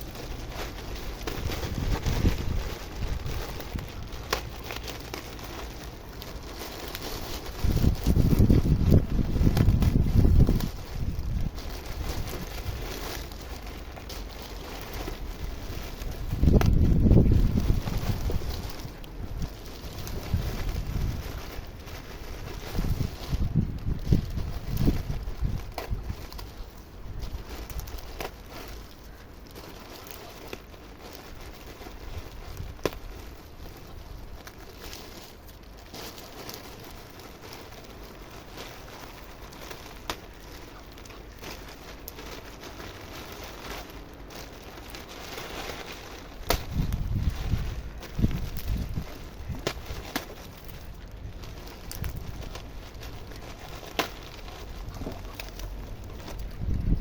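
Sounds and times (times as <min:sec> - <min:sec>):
wind rumble on microphone: 0:00.0 - 0:30.4, 0:31.4 - 0:35.3, 0:44.8 - 0:57.0
sharp clicks and crackles: 0:00.0 - 0:57.0.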